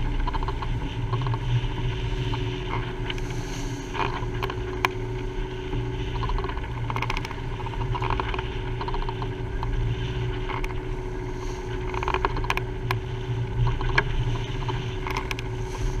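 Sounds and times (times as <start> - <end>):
faint steady hum: 0.0 - 16.0
water rushing along hull: 0.0 - 16.0.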